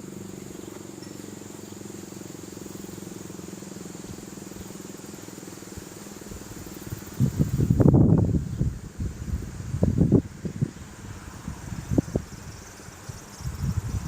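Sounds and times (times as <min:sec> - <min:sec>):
insects chirring: 0:00.0 - 0:14.0
steady low hum: 0:00.0 - 0:14.0.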